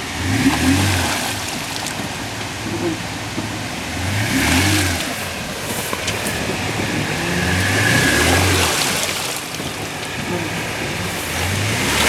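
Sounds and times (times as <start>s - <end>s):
suv engine revving: 0.0s - 12.0s.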